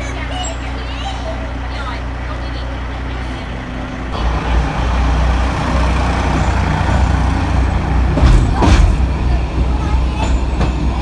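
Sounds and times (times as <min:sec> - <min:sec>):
locomotive diesel engine rumble: 0:00.0 - 0:11.0.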